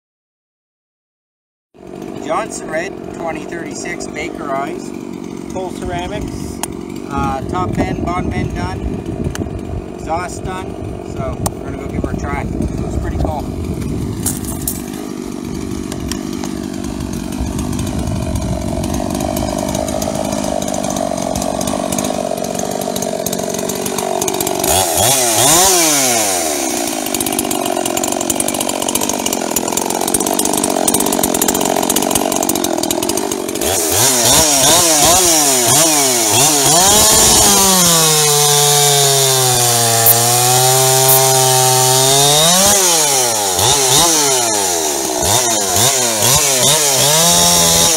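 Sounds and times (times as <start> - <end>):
chainsaw revving and cutting: 1.8 - 47.9.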